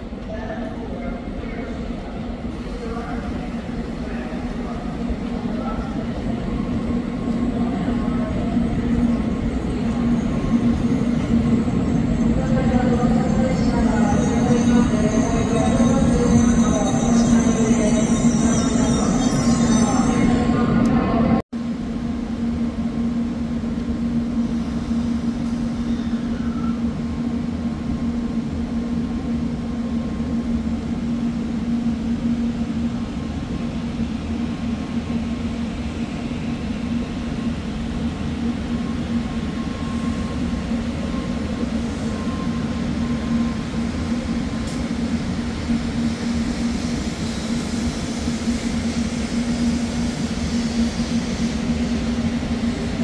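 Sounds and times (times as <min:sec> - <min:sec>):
high-speed train humming and rushing: 0:00.0 - 0:53.0.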